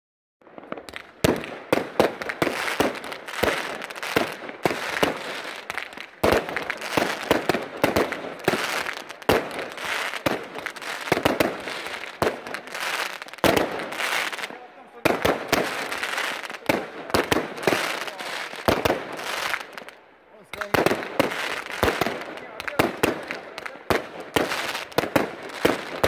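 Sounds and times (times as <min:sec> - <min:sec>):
fireworks crackle and hiss: 0:00.4 - 0:26.0.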